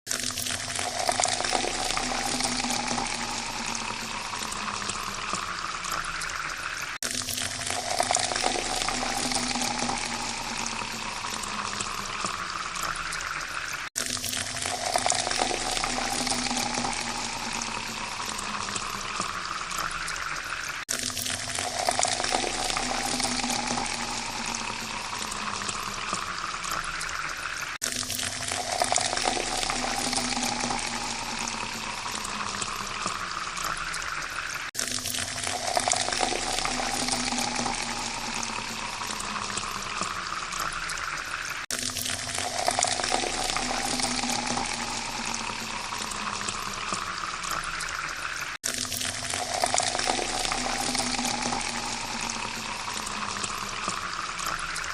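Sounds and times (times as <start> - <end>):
water pouring into a glass: 0.1 - 54.9.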